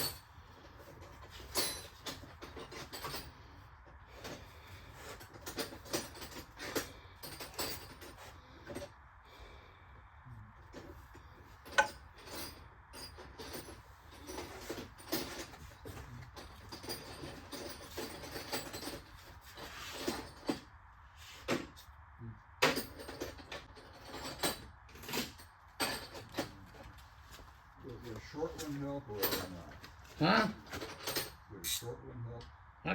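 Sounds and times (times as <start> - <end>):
wrench clinking and scraping on metal: 0.0 - 9.0, 10.8 - 20.7, 22.6 - 27.4, 28.1 - 32.0.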